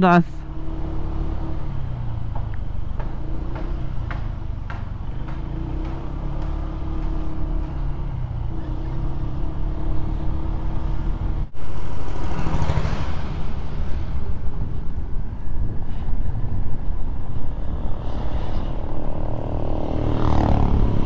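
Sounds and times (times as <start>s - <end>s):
road and wind noise: 0.0s - 21.0s
scooter engine running at low speed: 0.4s - 21.0s.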